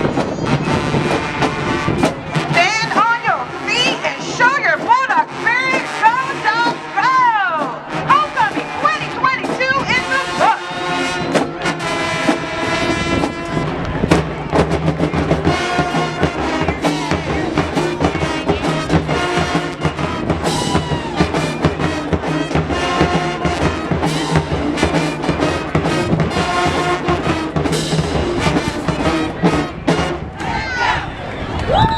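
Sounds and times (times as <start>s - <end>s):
marching band playing: 0.0s - 31.2s
brass horns: 0.0s - 31.4s
drums: 0.0s - 31.9s.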